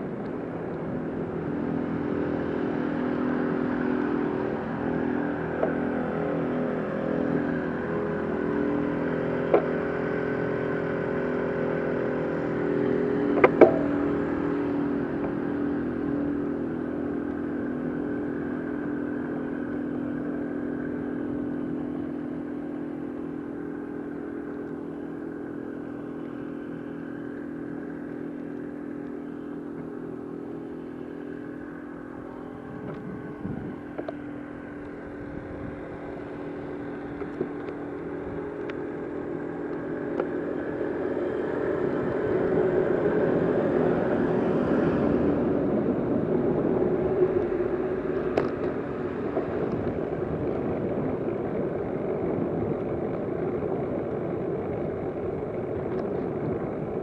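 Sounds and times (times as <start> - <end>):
rushing road noise: 0.0 - 57.0
vehicle engine humming: 0.0 - 57.0.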